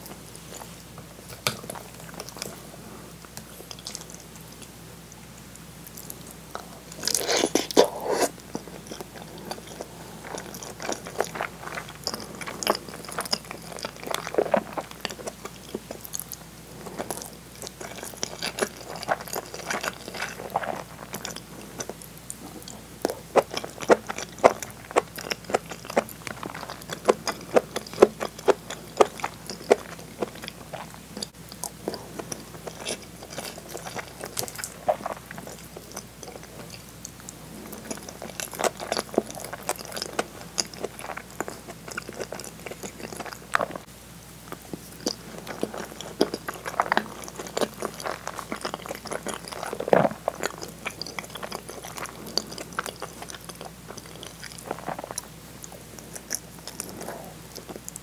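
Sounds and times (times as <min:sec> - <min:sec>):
wet chewing clicks and smacks: 0:03.2 - 0:43.9, 0:44.5 - 0:58.0.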